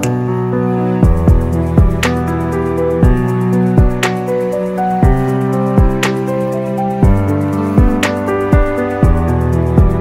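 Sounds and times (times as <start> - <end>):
soft chords over a beat: 0.0 - 10.0.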